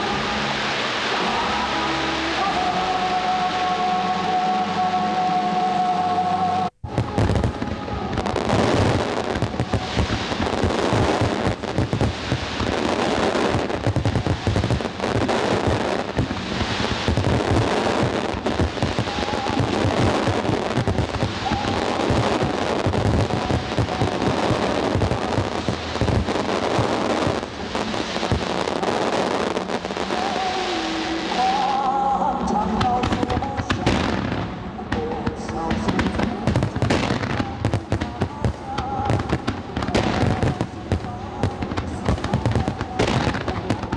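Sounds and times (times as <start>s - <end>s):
fireworks bursting and crackling: 0.0s - 43.9s.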